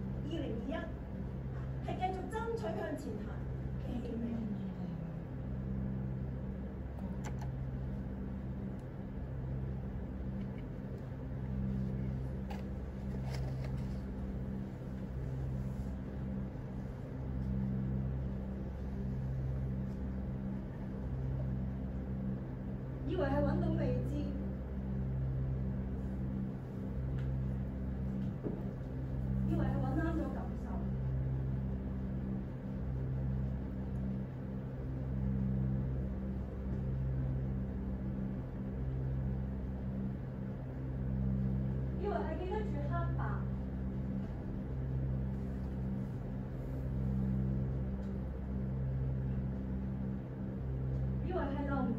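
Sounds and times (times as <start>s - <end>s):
low rumbling drone: 0.0s - 51.9s.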